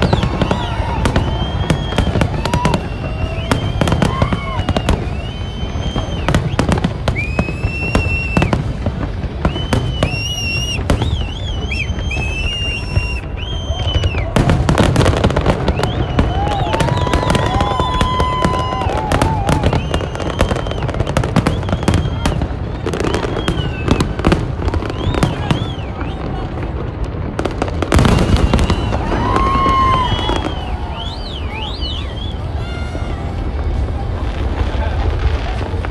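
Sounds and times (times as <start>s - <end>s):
fireworks bangs and crackle: 0.0s - 35.9s
fireworks whistles: 0.0s - 35.9s.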